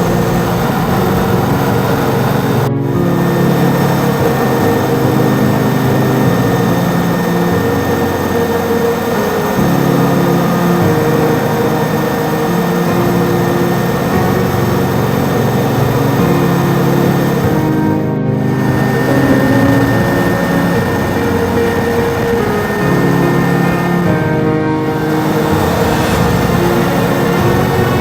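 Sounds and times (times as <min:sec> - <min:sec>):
helicopter turbine engines running: 0:00.0 - 0:28.0
low sustained tones: 0:00.0 - 0:28.0
thin high whines: 0:00.0 - 0:28.0.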